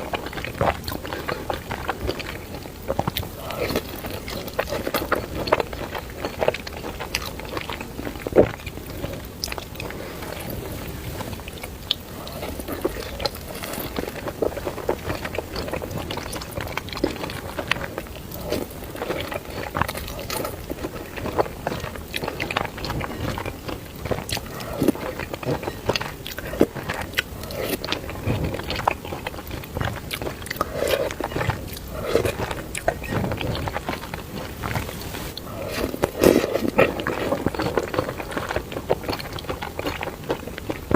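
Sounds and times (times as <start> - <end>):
person chewing noodles: 0.0 - 40.9.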